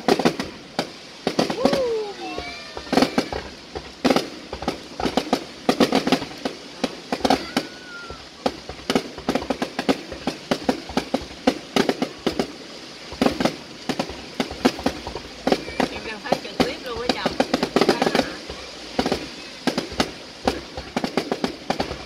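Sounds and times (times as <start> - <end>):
fireworks bursting with sharp bangs: 0.0 - 22.0.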